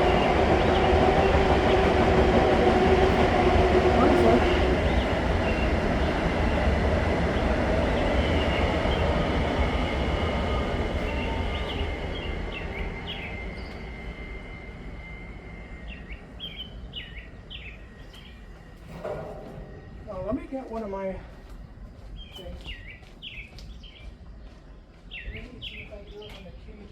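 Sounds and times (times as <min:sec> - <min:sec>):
birds chirping: 0:00.0 - 0:26.9
train rumbling past: 0:00.0 - 0:26.9.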